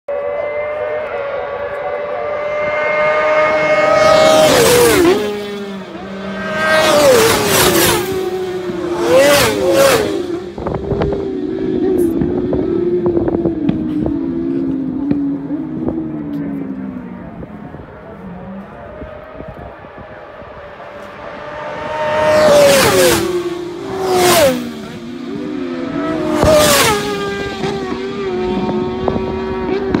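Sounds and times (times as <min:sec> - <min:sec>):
racing motorcycles at full throttle: 0:00.1 - 0:30.0
motorcycle downshifting: 0:00.3 - 0:30.0.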